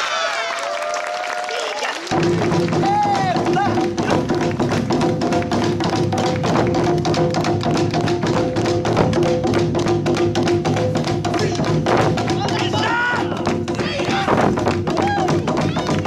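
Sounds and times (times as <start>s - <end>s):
small drums beaten fast: 2.0s - 16.0s.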